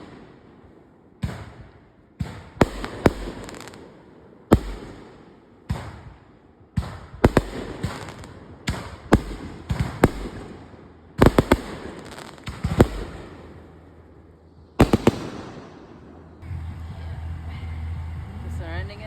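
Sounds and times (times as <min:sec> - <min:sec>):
sharp bangs and cracks: 0:00.0 - 0:14.1, 0:14.8 - 0:16.2.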